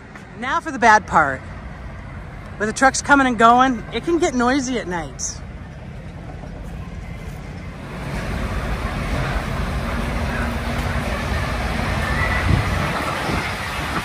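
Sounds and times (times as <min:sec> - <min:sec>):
diesel truck engines rumbling: 0:00.0 - 0:14.0.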